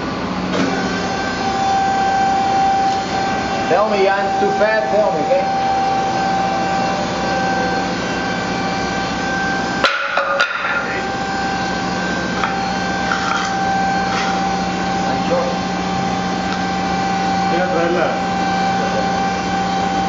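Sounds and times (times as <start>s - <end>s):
mill machine hum and whine: 0.0s - 20.0s.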